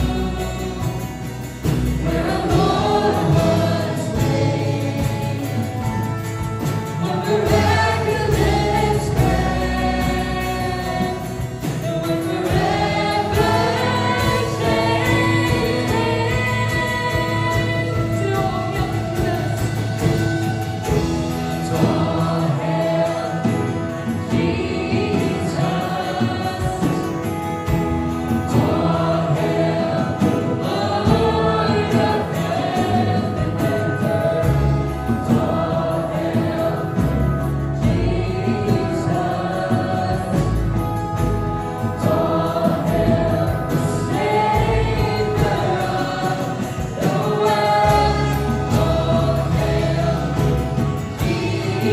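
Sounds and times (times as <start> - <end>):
group singing worship song: 0.0 - 51.9
instrumental backing: 0.0 - 51.9.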